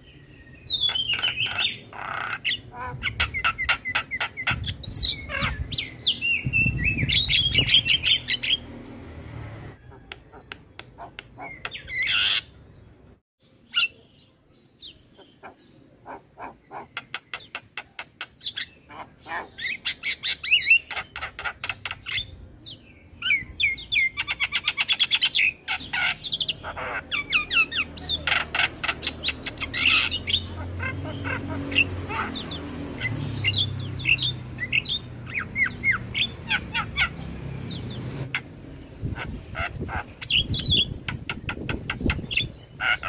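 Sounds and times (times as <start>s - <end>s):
bird chattering and whistling: 0.4s - 8.7s, 9.8s - 12.6s, 14.8s - 22.4s, 23.2s - 43.0s.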